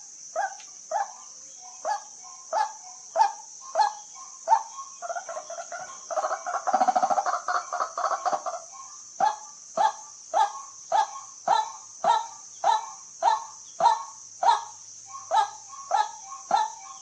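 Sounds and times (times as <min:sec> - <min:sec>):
steady high-pitched hiss: 0:00.0 - 0:17.0
waterhen calling: 0:02.6 - 0:17.0.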